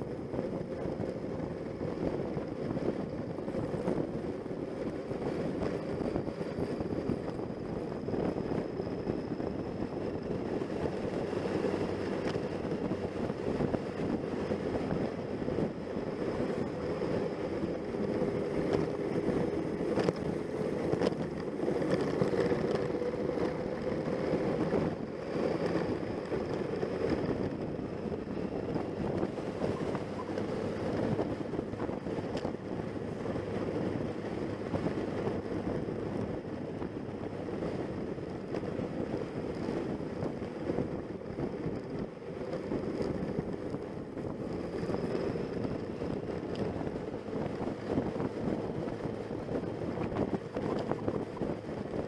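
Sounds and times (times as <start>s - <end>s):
motorcycle engine running: 0.0s - 52.0s
wind noise on microphone: 0.0s - 52.0s.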